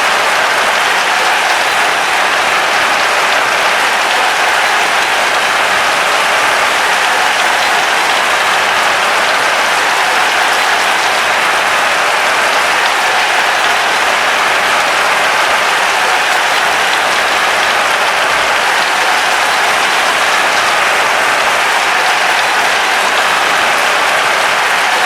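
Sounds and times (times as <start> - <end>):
large crowd applauding: 0.0 - 25.0.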